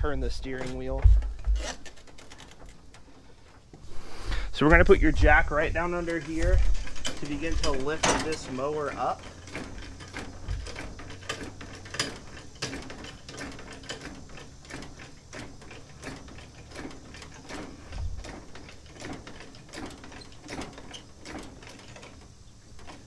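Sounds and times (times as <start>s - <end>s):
floor jack pumping clicks: 0.4s - 23.0s.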